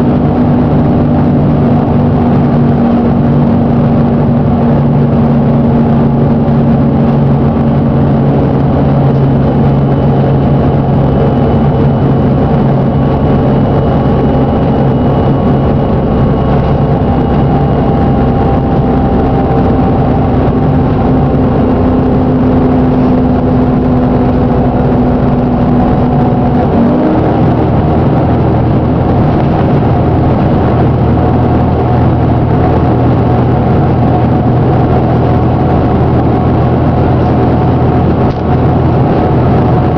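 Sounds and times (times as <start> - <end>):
bus diesel engine running: 0.0 - 39.9
diesel engine knocking: 0.0 - 39.9.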